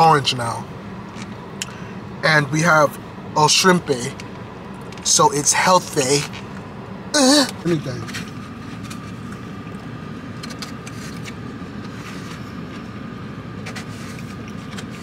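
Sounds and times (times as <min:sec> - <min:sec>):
car idling rumble: 0:00.0 - 0:15.0
faint steady whine: 0:00.0 - 0:15.0.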